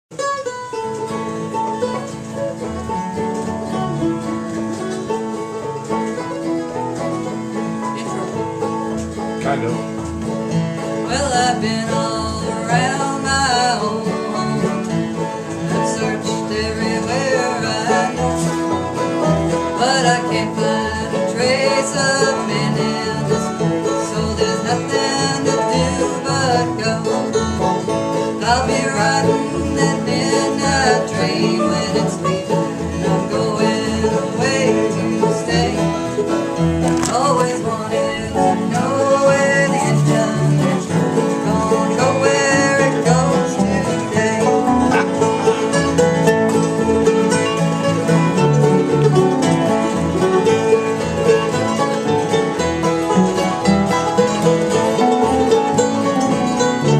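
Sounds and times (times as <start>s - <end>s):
guitar: 0.0s - 56.9s
banjo: 0.1s - 56.9s.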